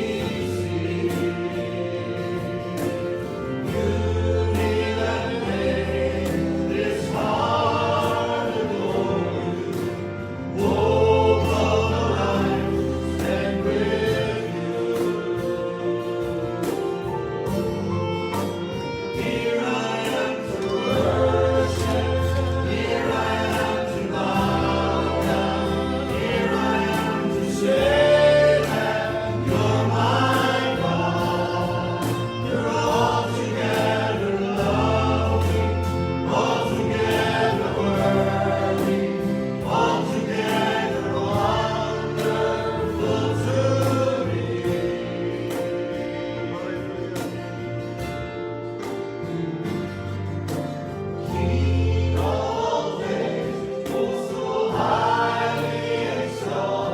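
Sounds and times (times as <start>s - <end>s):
band with bass and beat: 0.0s - 56.9s
voices singing together: 0.0s - 56.9s.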